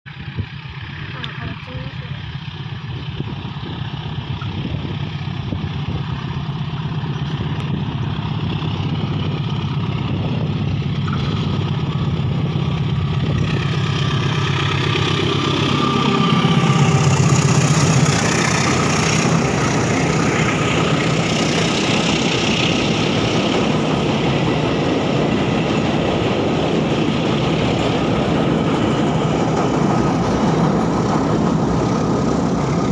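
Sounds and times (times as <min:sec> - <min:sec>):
train engine hum: 0:00.0 - 0:32.9
wheels rumbling on rails: 0:00.0 - 0:32.9.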